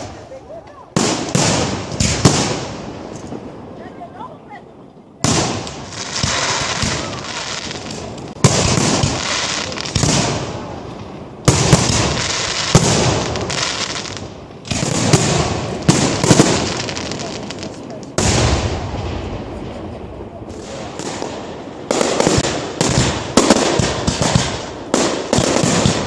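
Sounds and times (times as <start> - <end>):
fireworks bangs: 0.0 - 4.6, 5.2 - 26.0
hissing crackling firework tails: 0.0 - 26.0.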